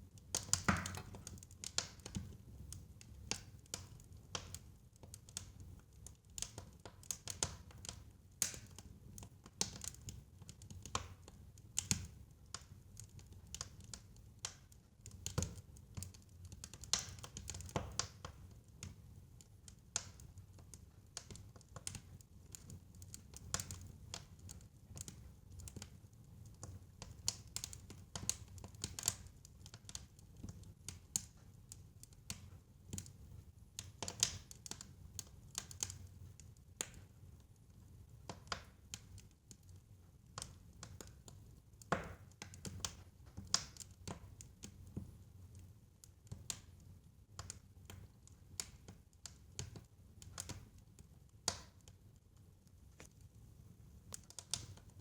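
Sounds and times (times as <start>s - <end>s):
fire crackling and popping: 0.1s - 55.0s.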